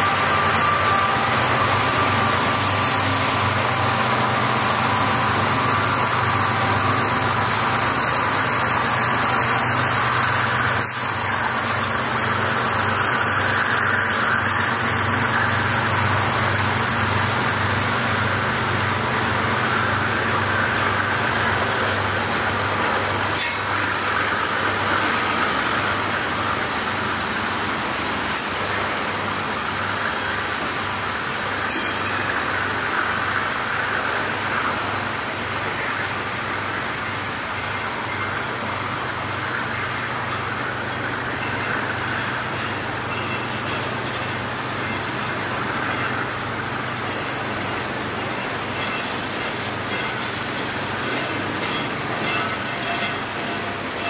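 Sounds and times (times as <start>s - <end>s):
freight train wheels rumbling and rattling: 0.0s - 54.0s.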